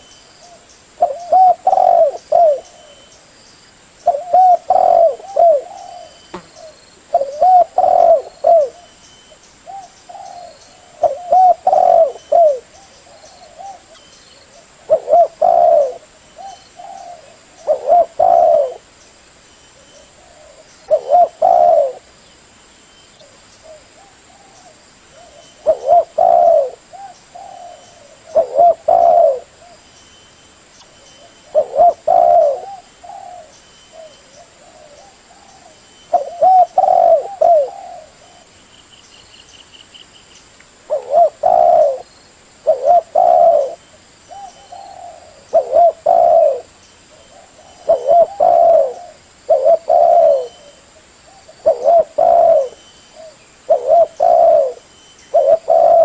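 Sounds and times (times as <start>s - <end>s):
dove cooing: 0.0s - 3.1s, 4.0s - 8.9s, 9.6s - 18.9s, 19.8s - 22.1s, 23.2s - 29.8s, 31.2s - 38.5s, 40.9s - 56.0s.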